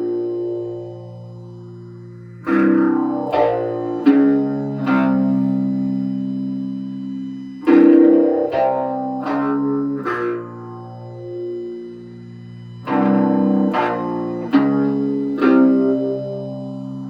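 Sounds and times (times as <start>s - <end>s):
electric guitar doom riff: 0.0s - 6.6s, 7.6s - 17.0s.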